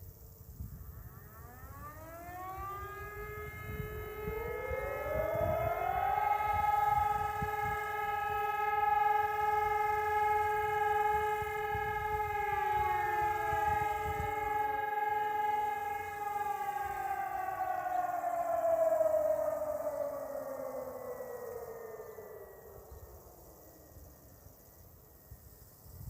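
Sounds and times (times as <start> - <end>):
civil defense siren wailing: 0.0 - 26.0.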